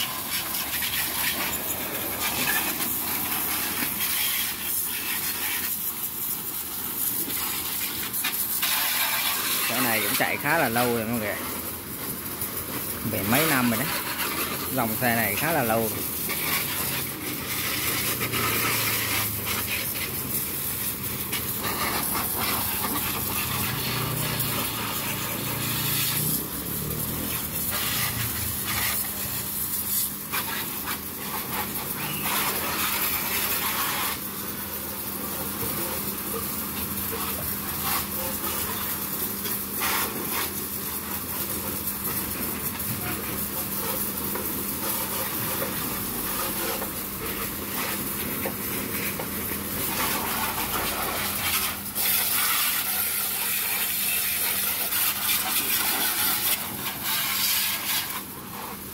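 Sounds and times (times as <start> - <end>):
pressure washer spray hissing: 0.0 - 58.9.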